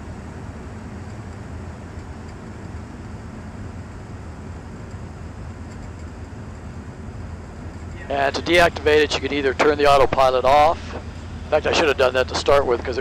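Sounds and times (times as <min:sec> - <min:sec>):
aircraft engine and propeller drone: 0:00.0 - 0:13.0.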